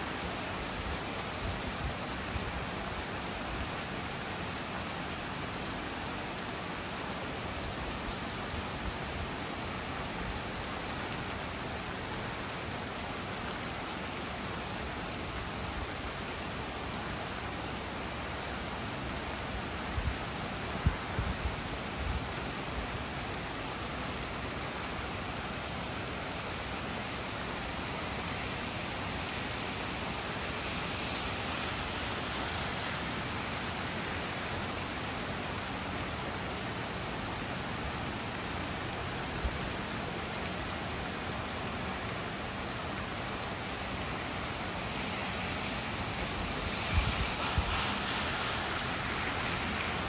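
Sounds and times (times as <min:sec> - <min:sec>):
heavy rain on street and leaves: 0:00.0 - 0:50.0.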